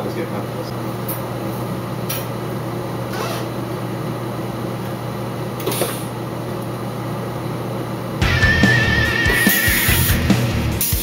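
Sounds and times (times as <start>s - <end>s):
machine hum with fan hiss: 0.0s - 11.0s.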